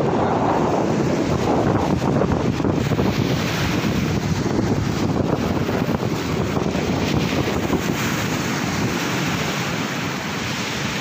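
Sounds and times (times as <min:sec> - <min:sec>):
sea surf breaking on beach: 0:00.0 - 0:11.0
wind buffeting microphone: 0:00.0 - 0:11.0.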